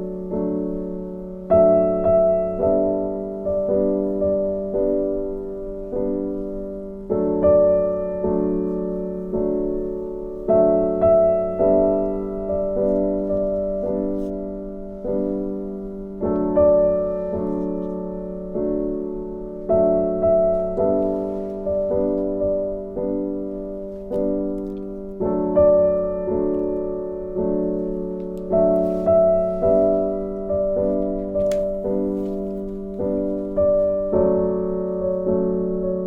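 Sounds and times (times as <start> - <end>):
gentle solo piano: 0.0 - 36.0.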